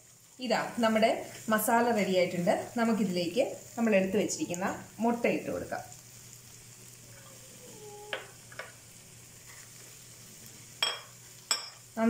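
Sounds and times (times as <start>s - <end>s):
faint sizzle: 0.0s - 12.0s.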